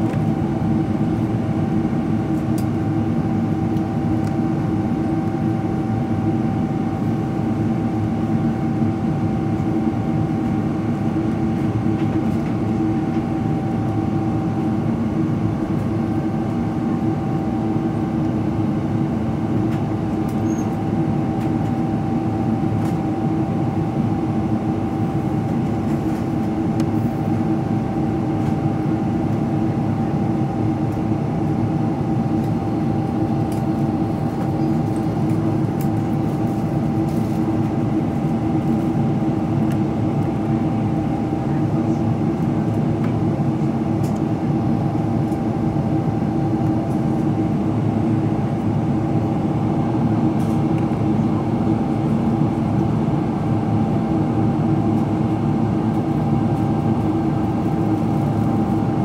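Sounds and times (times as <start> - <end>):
airplane cabin engine rush: 0.0 - 59.0
constant low hum: 0.0 - 59.0.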